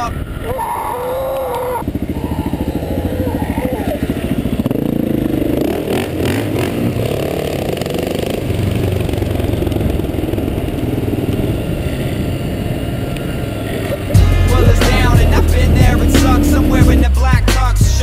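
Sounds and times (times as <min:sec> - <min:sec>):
motorcycle engine running: 0:01.4 - 0:18.0.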